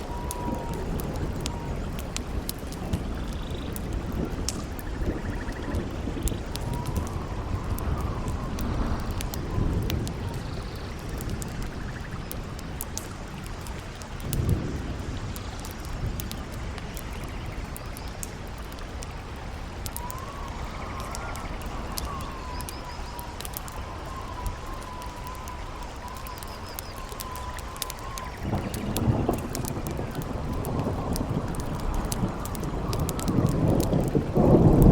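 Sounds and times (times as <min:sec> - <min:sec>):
campfire crackling: 0:00.0 - 0:34.9
gusting wind: 0:00.0 - 0:34.9
whistling wind howl: 0:00.0 - 0:34.9.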